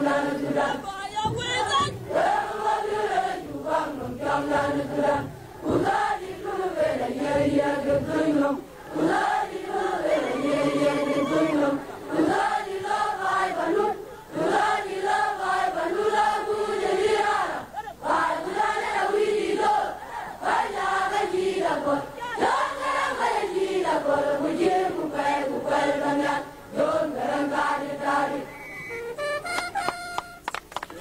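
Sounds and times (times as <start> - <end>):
group singing in unison: 0.0 - 28.7.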